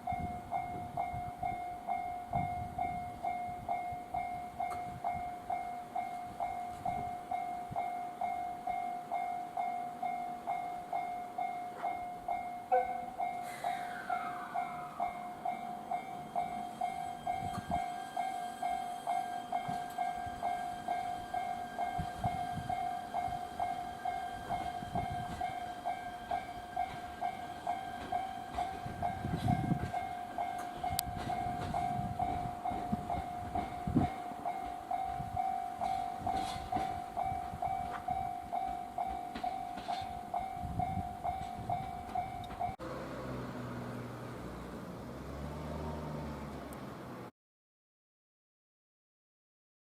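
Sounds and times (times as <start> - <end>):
railway warning bell ringing: 0.0 - 46.5
train sounds: 0.0 - 47.3.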